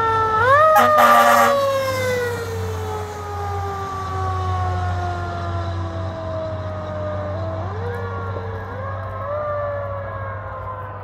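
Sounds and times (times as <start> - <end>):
fire engine siren wailing: 0.0 - 11.0
truck engine rumble: 0.0 - 11.0.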